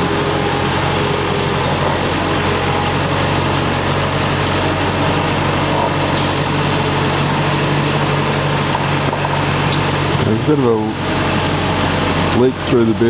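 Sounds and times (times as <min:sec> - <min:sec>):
concrete mixer running: 0:00.0 - 0:13.0.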